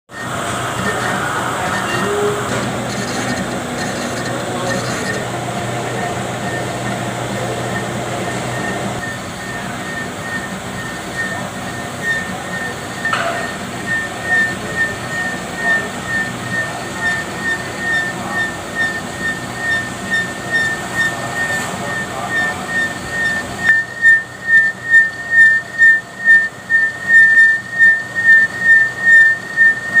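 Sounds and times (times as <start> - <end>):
metal lathe running: 0.1 - 30.0
pulsing lathe squeal: 0.1 - 30.0.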